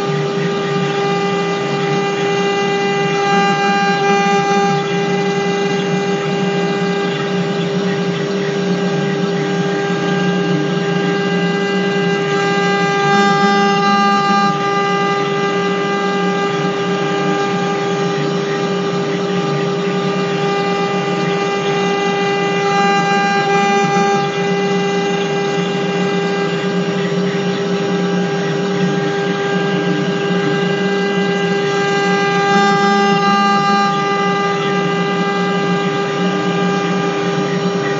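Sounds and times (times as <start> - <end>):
engraving machine spindle whining: 0.0 - 37.9.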